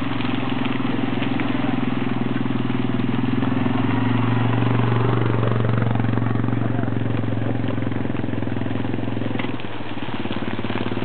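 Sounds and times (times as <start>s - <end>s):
quad bike engine idling: 0.0s - 11.0s.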